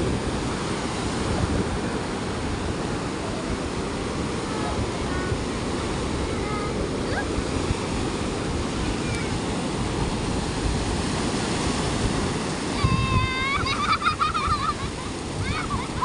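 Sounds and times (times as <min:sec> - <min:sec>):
sea surf breaking on beach: 0:00.0 - 0:16.0.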